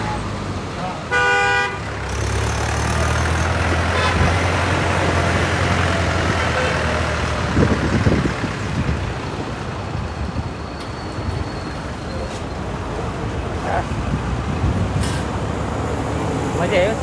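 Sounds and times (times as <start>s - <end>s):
heavy vehicle engine hum: 0.0s - 17.0s.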